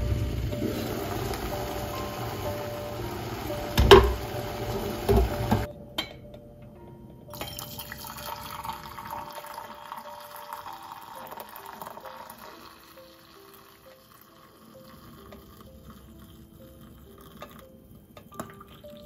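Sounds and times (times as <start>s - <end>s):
water pouring into vessel: 0.0s - 5.7s, 7.4s - 17.6s.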